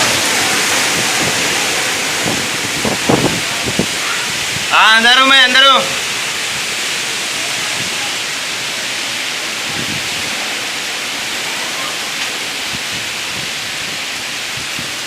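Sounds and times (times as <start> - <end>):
heavy storm wind: 0.0 - 15.0.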